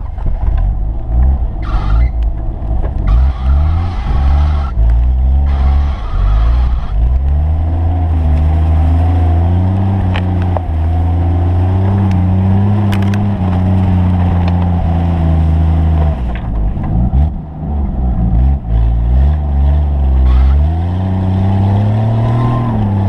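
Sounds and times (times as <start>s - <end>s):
vehicle engine under load: 0.0s - 23.0s.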